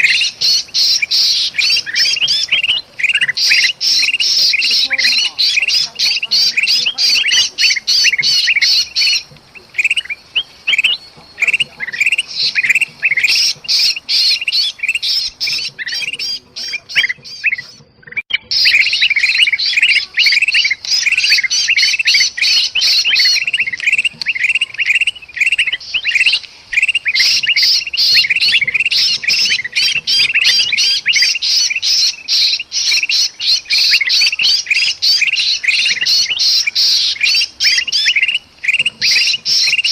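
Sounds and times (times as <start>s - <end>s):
bird distress calls: 0.0s - 39.9s
bulbuls calling and squawking: 0.0s - 39.9s.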